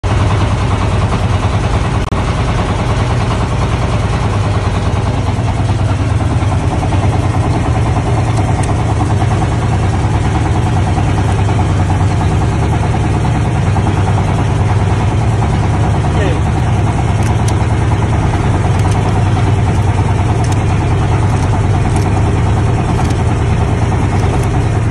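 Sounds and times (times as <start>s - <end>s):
boat engine idling: 0.0s - 24.9s.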